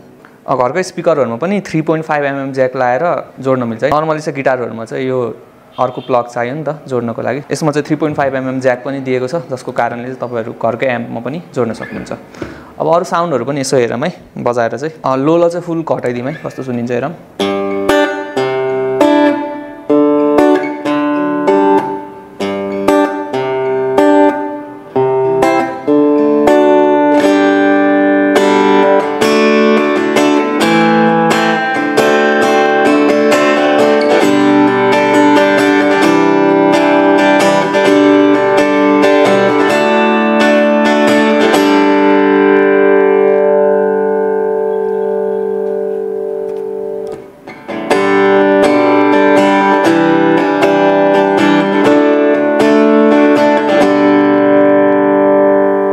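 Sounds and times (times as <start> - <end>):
guitar notes and chords: 0.0 - 12.8, 15.7 - 55.9.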